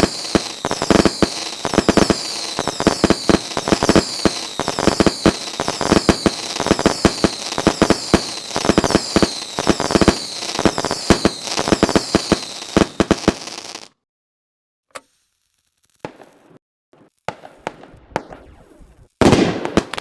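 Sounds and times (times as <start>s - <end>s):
fireworks banging and crackling: 0.0s - 13.9s, 15.9s - 20.0s.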